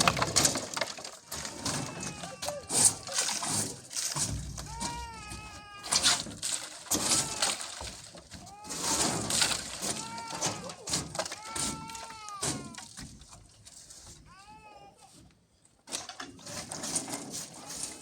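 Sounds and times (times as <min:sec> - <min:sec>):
rustling and cracking: 0:00.0 - 0:18.0.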